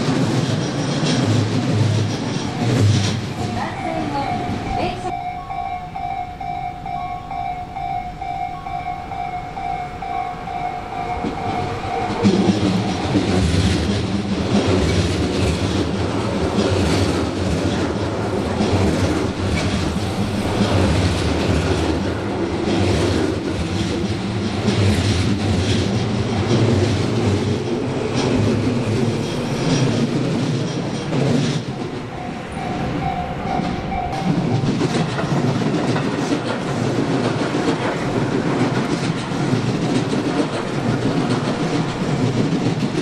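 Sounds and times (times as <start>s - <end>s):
wheels clacking over rail joints: 0.0s - 5.3s, 6.4s - 43.0s
train rumble: 0.0s - 43.0s.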